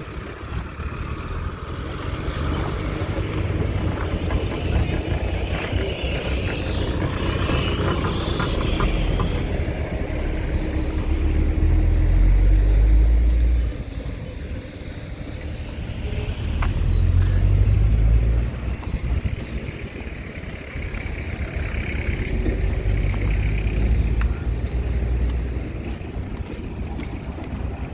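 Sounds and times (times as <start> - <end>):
vehicle driving past: 0.9 - 26.3.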